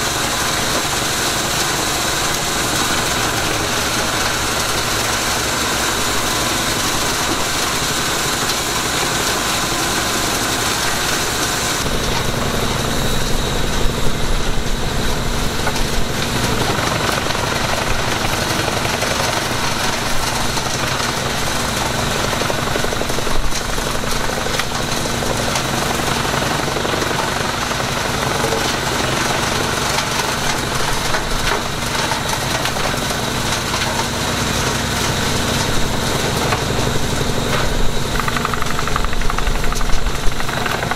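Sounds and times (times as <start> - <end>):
mini excavator engine running: 0.0 - 40.9
tractor diesel engine under load: 0.0 - 40.9
wood chipper: 0.0 - 40.9.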